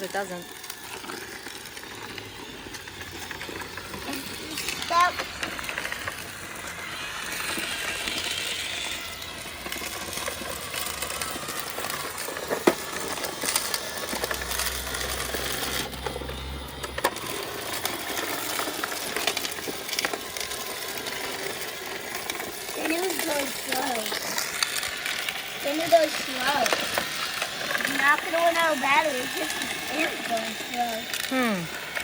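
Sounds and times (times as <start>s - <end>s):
robot vacuum rattling over grit: 0.0s - 32.0s.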